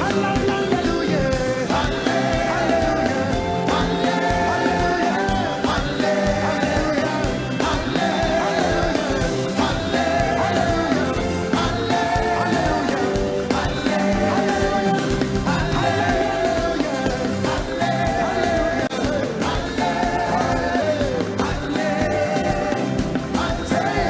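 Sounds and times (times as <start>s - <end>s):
band playing upbeat groove: 0.0s - 24.0s
voices singing: 0.0s - 24.0s.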